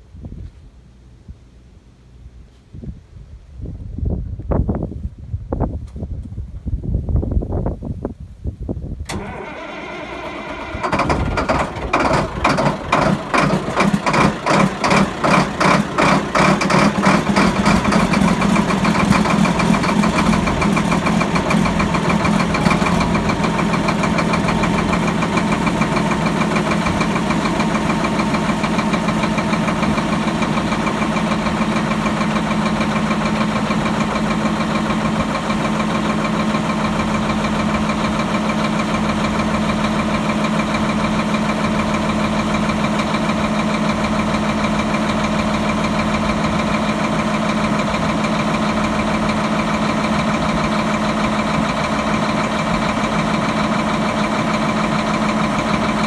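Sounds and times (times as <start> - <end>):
diesel engine starting and idling: 9.0 - 56.0.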